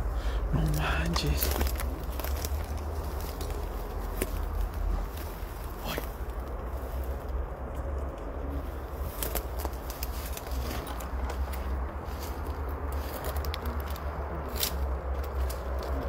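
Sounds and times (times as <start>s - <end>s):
footsteps through dry grass: 0.0s - 16.0s
steady low rumble: 0.0s - 16.0s
stems snapping: 0.6s - 16.0s.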